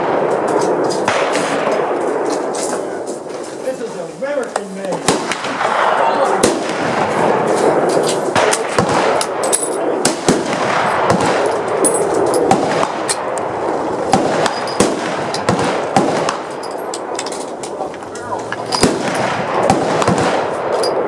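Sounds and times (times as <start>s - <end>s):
rifle gunshots: 0.0s - 3.1s, 5.0s - 21.0s
steady noisy background: 0.0s - 21.0s.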